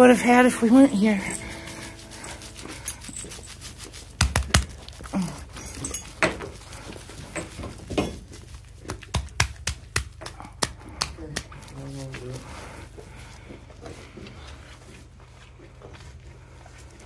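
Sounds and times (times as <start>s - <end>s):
hand rubbing calf in straw: 0.0s - 10.2s, 10.8s - 17.0s.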